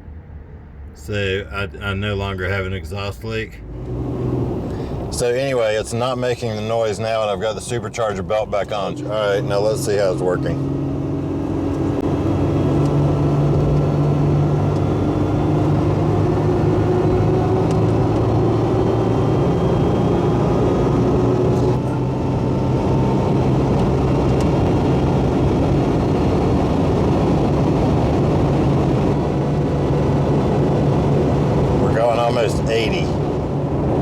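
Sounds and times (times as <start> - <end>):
car engine accelerating hard: 3.5 - 34.0.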